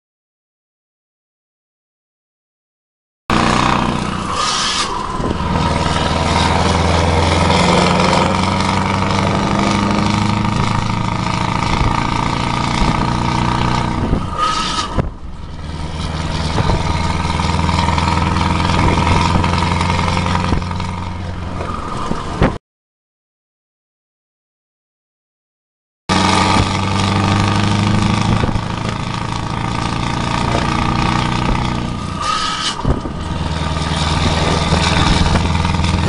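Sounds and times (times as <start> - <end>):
truck diesel engine running: 3.3 - 22.5, 26.1 - 36.0
road noise: 3.3 - 22.6, 26.1 - 36.0.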